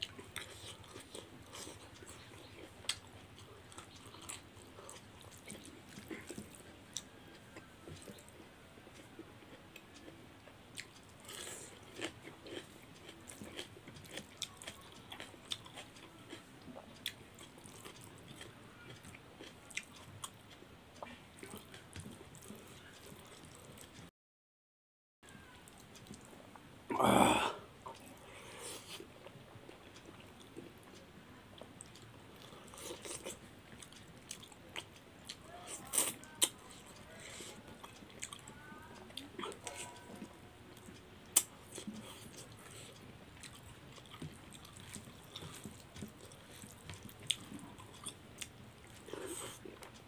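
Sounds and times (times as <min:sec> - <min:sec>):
person chewing with wet clicks: 0:00.0 - 0:24.1, 0:25.3 - 0:50.0.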